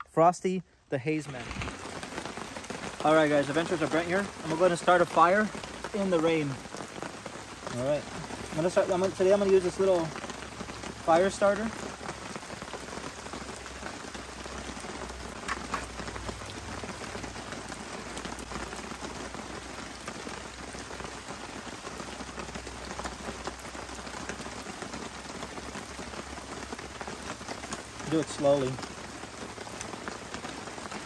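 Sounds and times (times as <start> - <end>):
steady rain falling: 0.1 - 31.0
sharp raindrop ticks: 1.3 - 31.0.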